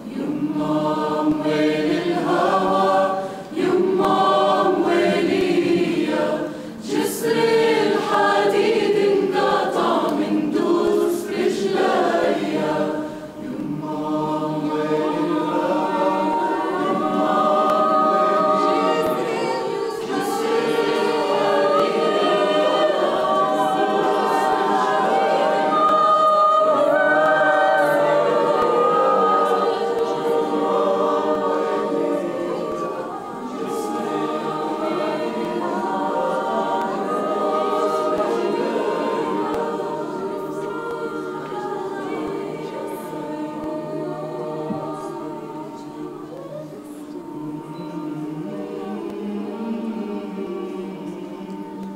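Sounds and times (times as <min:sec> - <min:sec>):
mixed choir singing a cappella: 0:00.0 - 0:51.9.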